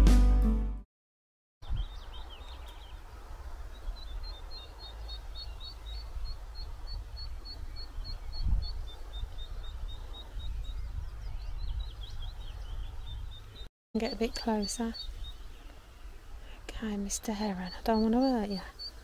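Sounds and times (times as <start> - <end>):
songbird chirping: 1.6 - 19.0.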